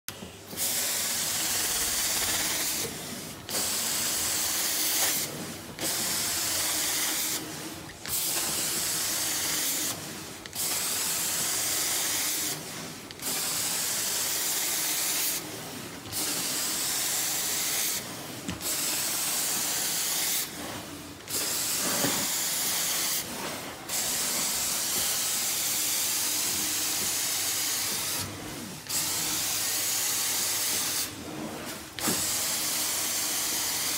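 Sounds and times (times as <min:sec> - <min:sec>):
carpet extraction wand spraying: 0:00.6 - 0:02.9, 0:03.5 - 0:07.4, 0:08.0 - 0:12.6, 0:13.2 - 0:15.4, 0:16.1 - 0:18.0, 0:18.6 - 0:20.5, 0:21.3 - 0:23.3, 0:23.9 - 0:28.3, 0:28.9 - 0:31.1, 0:32.0 - 0:33.9.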